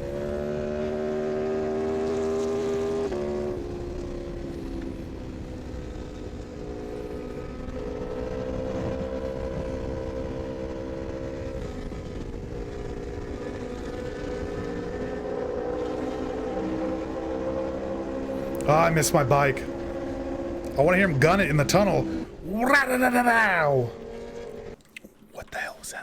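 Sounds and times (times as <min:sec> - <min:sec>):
motorcycle engine at high revs: 0:00.0 - 0:18.7, 0:19.6 - 0:20.8, 0:21.5 - 0:22.4, 0:23.9 - 0:24.8.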